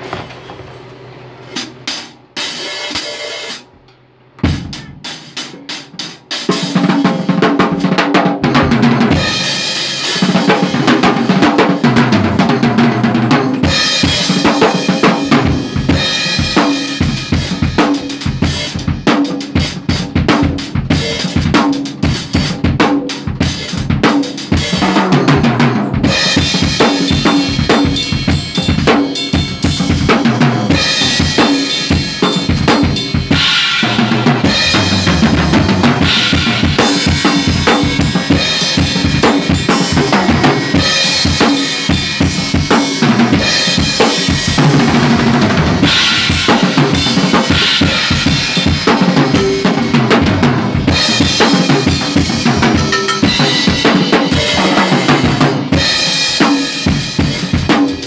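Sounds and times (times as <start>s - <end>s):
acoustic drum kit groove: 1.5s - 58.0s.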